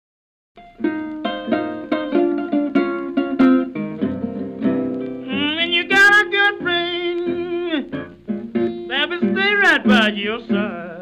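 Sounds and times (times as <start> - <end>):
acoustic blues guitar: 0.6 - 11.0.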